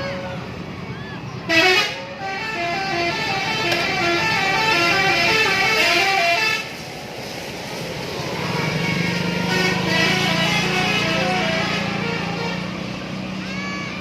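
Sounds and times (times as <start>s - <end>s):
bus musical horn melody: 0.0s - 0.5s, 1.5s - 6.8s, 8.4s - 14.0s.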